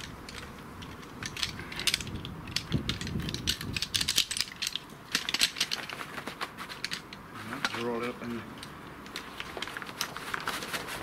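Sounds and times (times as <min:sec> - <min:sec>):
metal chair poles clinking: 0:00.0 - 0:10.2.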